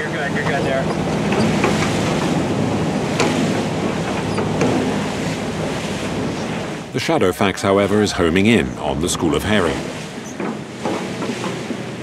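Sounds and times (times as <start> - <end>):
boat engine hum: 0.0 - 12.0
rushing water: 0.0 - 12.0.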